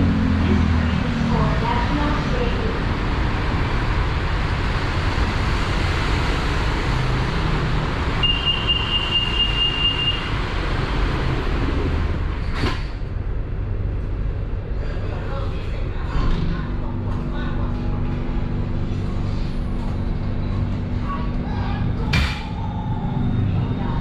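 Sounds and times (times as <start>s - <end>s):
electric train rumble inside carriage: 0.0s - 24.0s.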